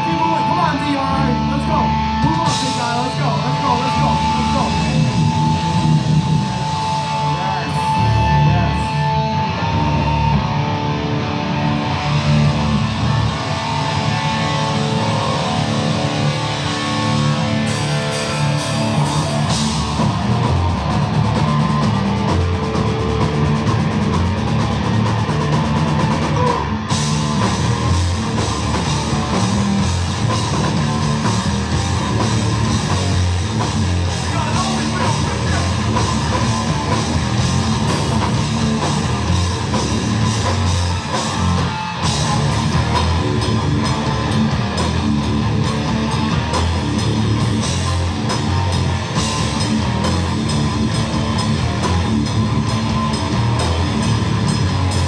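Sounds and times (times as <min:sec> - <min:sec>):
heavy rock band playing: 0:00.0 - 0:55.0.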